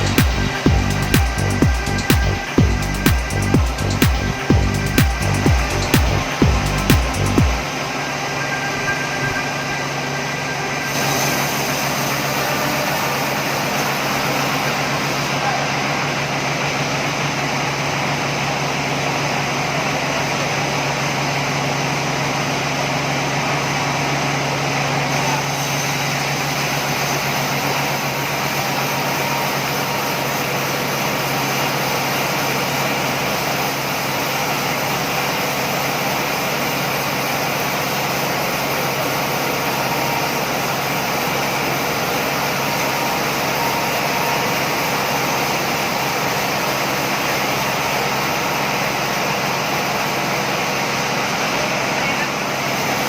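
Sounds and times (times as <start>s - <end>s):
sawmill machinery droning: 0.0s - 53.0s.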